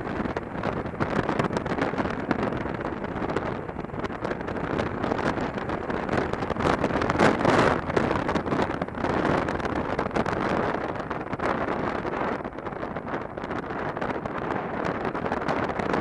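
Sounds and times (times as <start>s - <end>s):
motorcycle engine: 0.0s - 15.5s
wind buffeting microphone: 0.0s - 16.0s.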